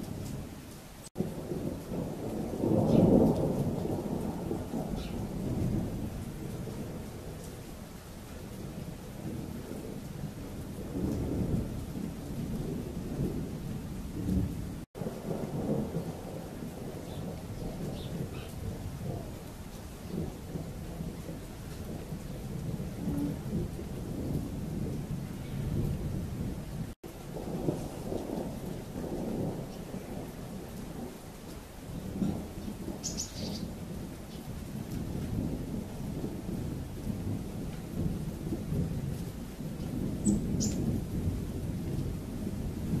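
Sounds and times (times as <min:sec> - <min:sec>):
thunder rumbling: 0:01.2 - 0:43.0.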